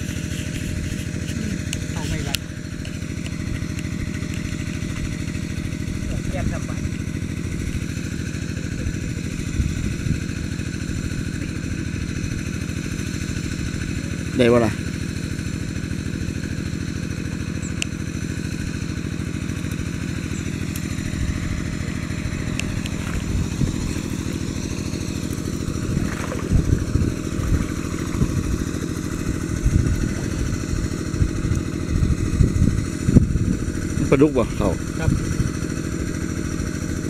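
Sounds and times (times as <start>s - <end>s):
water pump engine running: 0.0s - 37.0s.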